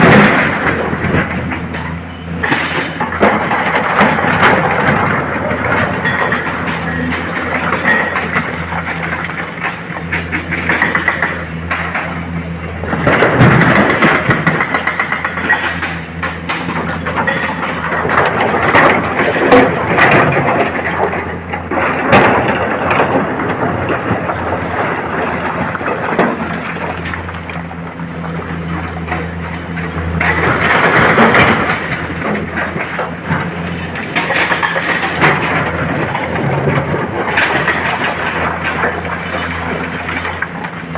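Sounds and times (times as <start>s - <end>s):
diesel engine drone: 0.0s - 40.9s.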